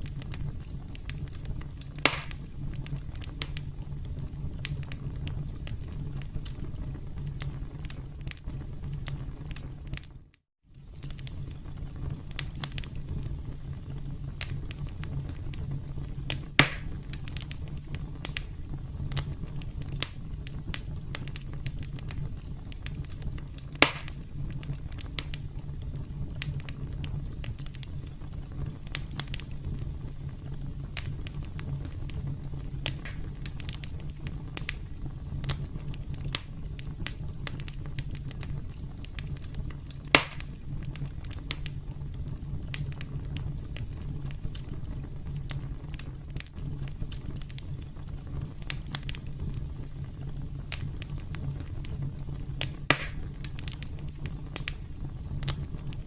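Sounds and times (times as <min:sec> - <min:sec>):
campfire crackling: 0:00.0 - 0:56.0
loud fire pops: 0:00.0 - 0:56.0
low rumble of flames: 0:00.0 - 0:56.0.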